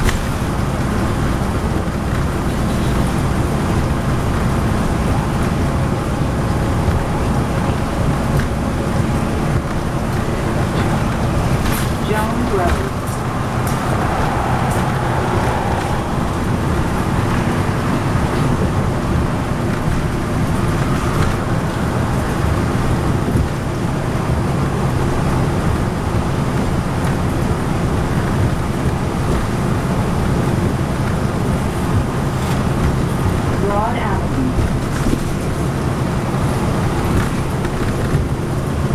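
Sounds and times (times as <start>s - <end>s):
bus diesel engine drone: 0.0s - 38.9s
road and tyre noise: 0.0s - 38.9s.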